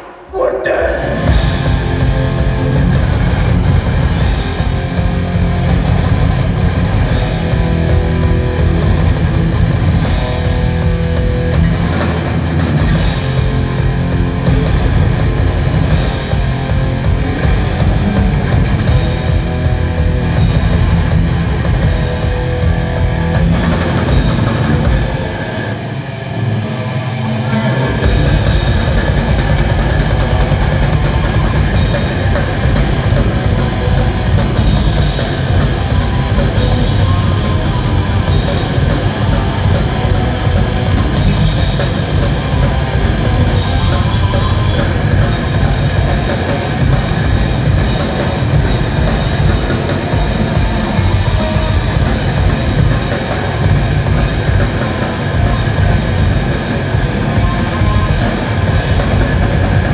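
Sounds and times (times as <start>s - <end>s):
drum kit: 0.0s - 25.8s, 28.0s - 59.9s
distorted electric guitars: 0.0s - 59.9s
bass guitar: 0.8s - 59.9s.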